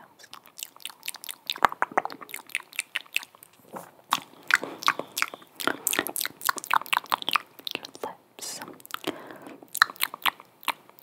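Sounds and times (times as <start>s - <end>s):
wet tongue clicks: 0.2s - 8.1s, 8.7s - 11.0s
lip smacks: 0.2s - 11.0s.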